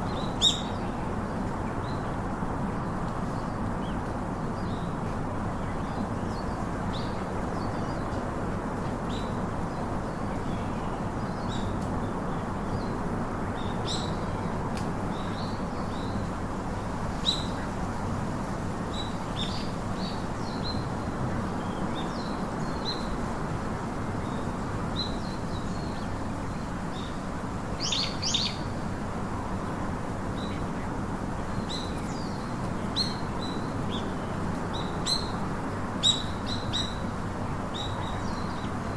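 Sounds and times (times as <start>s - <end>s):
low background hiss: 0.0s - 38.9s.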